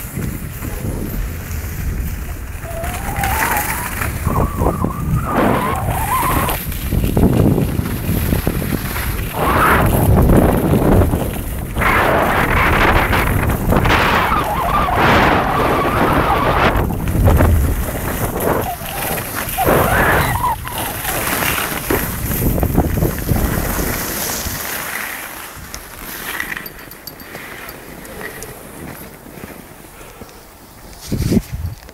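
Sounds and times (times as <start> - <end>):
skis scraping over snow: 0.0 - 31.9
wind buffeting microphone: 0.0 - 31.9.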